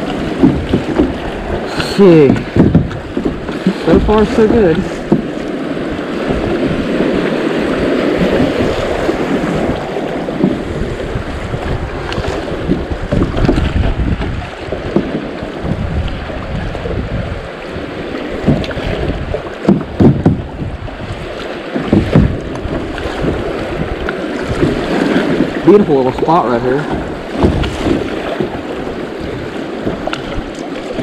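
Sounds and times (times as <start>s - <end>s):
creek rapids rushing: 0.0s - 31.0s
paddle strokes splashing: 0.0s - 31.0s
wind buffeting microphone: 0.0s - 31.0s.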